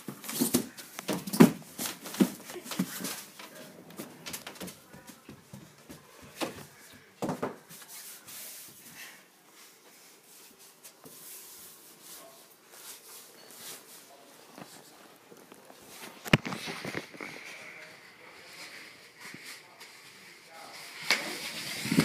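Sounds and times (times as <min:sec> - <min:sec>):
rubbing and scuffing: 0:00.0 - 0:22.0.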